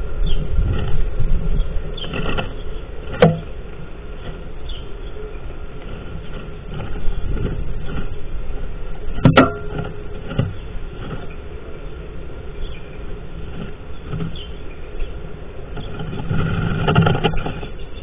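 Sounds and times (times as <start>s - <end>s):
faint scratchy noises: 0.0s - 18.0s
low steady rumble: 0.0s - 18.0s.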